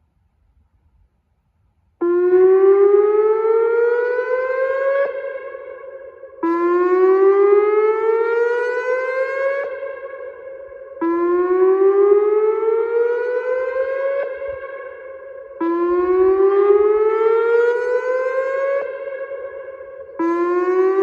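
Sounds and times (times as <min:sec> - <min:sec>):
electronic siren whooping: 0:02.0 - 0:21.0.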